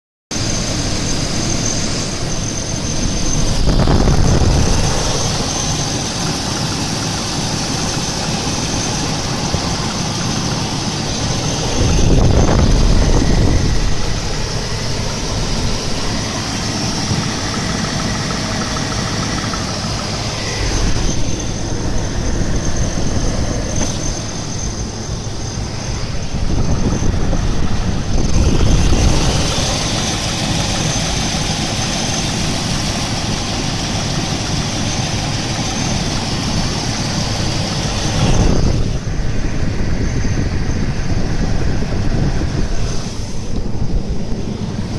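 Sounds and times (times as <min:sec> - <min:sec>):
engine knocking: 0:00.3 - 0:42.8
car engine running: 0:00.3 - 0:44.9.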